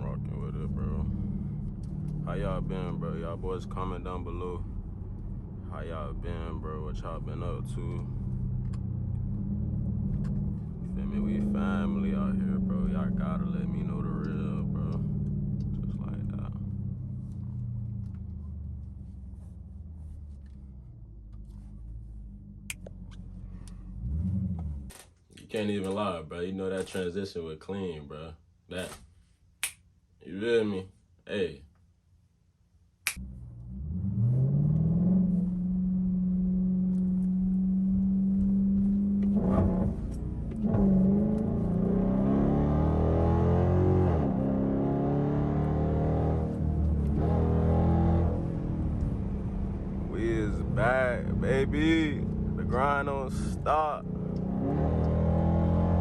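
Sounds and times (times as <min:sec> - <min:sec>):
engine exhaust drone: 0:00.0 - 0:24.9, 0:33.2 - 0:56.0.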